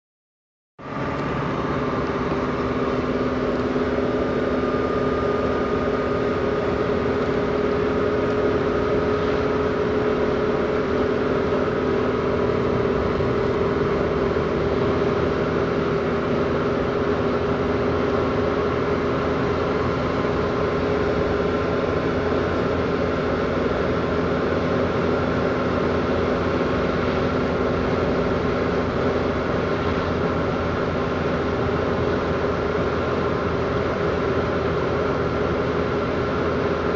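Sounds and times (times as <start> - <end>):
car engine drone: 0.8 - 36.9
road and wind noise: 0.8 - 36.9.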